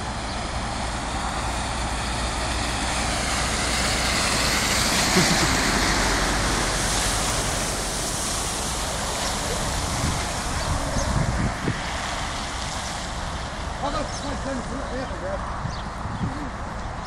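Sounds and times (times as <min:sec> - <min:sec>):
vehicle wheels hissing through water: 0:00.0 - 0:14.9.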